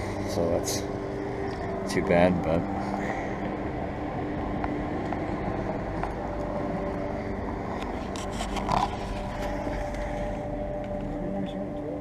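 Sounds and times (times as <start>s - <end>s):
faint tones: 0.0s - 12.0s
outdoor mechanical hum: 0.0s - 12.0s.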